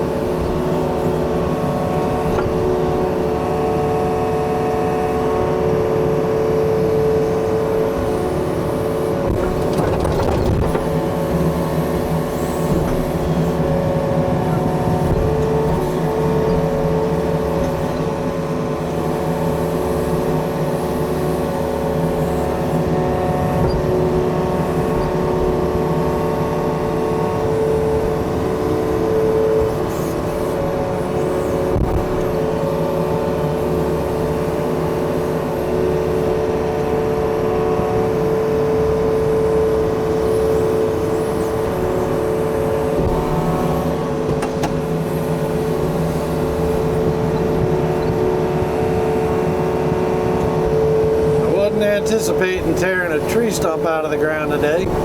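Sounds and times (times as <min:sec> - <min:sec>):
diesel digger engine under load: 0:00.0 - 0:55.0.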